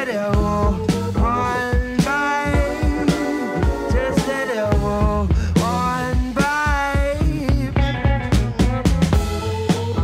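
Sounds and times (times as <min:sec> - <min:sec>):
drum kit steady beat: 0:00.0 - 0:10.0
electric guitar: 0:00.0 - 0:10.0
keyboard: 0:00.0 - 0:10.0.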